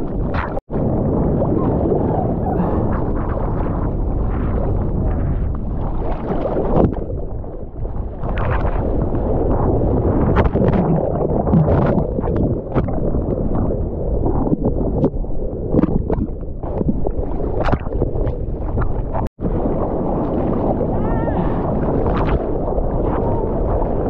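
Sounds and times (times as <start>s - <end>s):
ocean water rushing and splashing: 0.0s - 15.1s, 15.7s - 24.0s
wind buffeting microphone: 0.0s - 24.0s.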